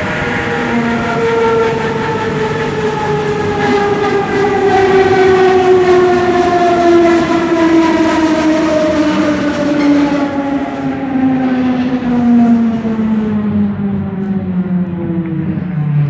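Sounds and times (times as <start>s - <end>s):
electric train motors whining: 0.0s - 15.8s
train wheels rumbling: 0.0s - 16.0s.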